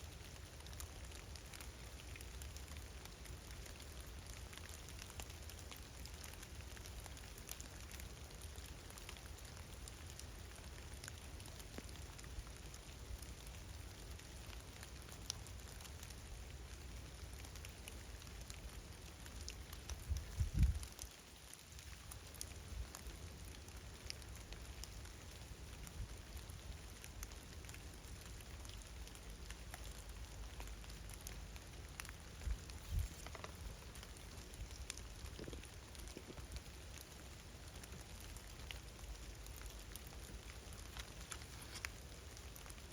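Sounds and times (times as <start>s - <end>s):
light rain falling: 0.0s - 42.9s.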